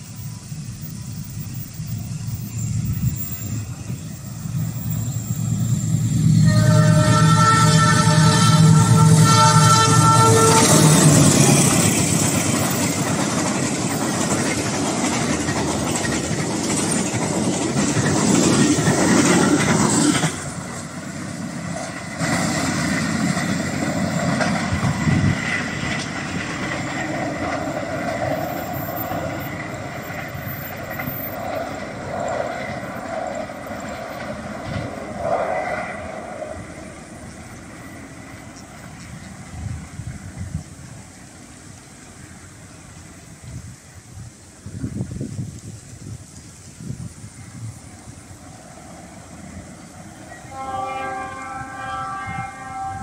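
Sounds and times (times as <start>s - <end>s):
train passing at speed: 0.0s - 53.0s.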